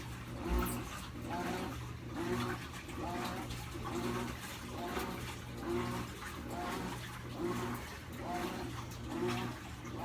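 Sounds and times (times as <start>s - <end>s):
washing machine motor hum: 0.0s - 10.0s
water sloshing in washing machine: 0.0s - 10.0s.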